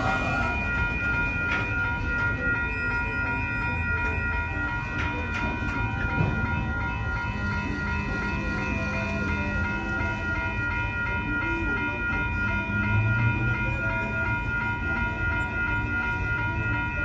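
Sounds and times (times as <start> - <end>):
high-pitched ringing tones: 0.0 - 17.0
train wheels rumbling on rail: 0.0 - 17.0.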